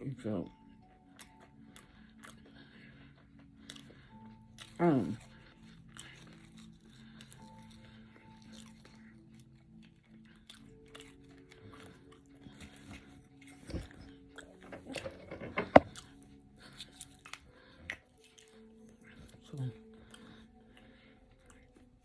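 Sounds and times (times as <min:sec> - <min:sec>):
soft background music: 0:00.0 - 0:22.0
biting and chewing food: 0:00.4 - 0:22.0.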